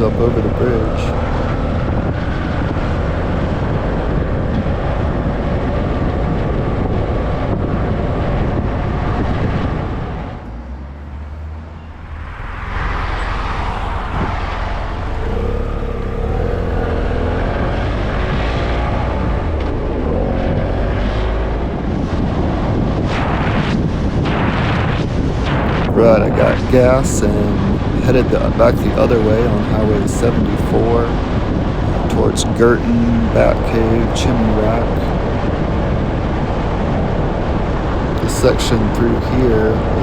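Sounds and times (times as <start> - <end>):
tyre noise on road: 0.0 - 40.0
vehicle engine: 0.0 - 40.0.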